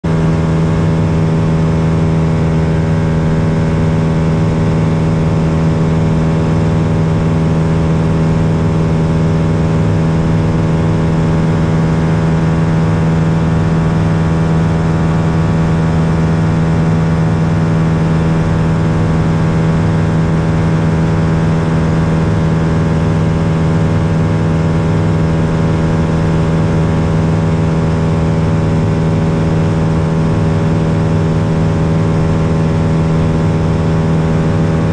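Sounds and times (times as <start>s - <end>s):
airplane engine drone in cabin: 0.1s - 34.9s.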